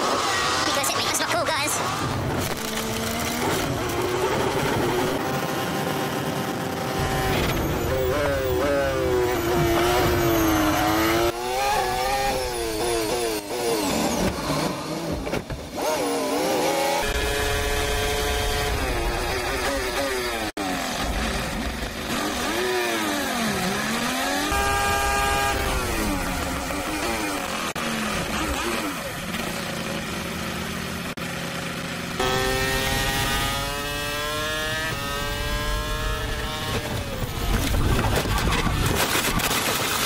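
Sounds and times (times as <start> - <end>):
racing car engine at high revs: 0.0 - 40.0.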